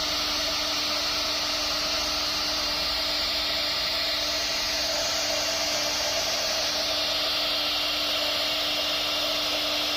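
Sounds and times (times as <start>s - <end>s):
router spindle cutting wood: 0.0s - 9.9s.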